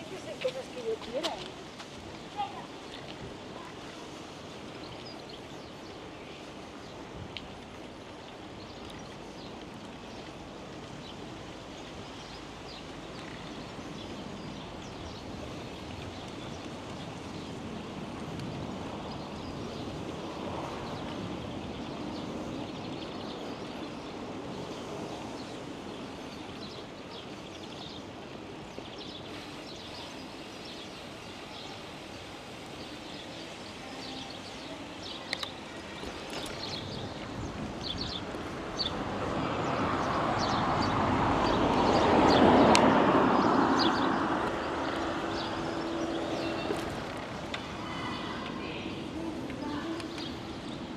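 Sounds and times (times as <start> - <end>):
bicycle tyres rolling: 0.0 - 50.9.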